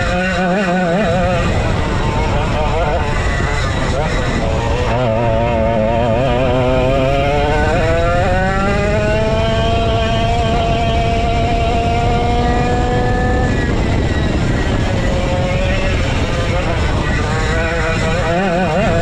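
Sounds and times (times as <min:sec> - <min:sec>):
go-kart engine pulling hard: 0:00.0 - 0:19.0.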